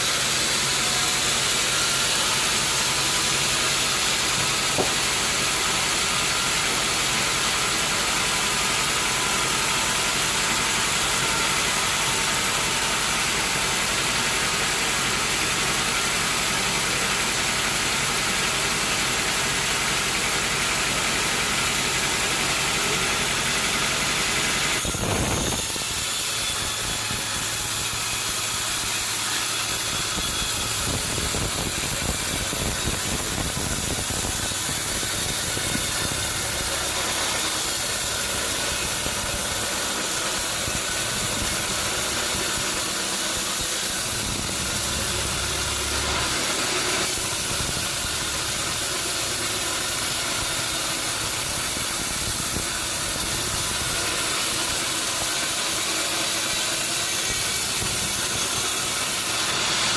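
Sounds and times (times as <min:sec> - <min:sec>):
motor running: 0:00.0 - 0:13.2, 0:19.0 - 0:59.9.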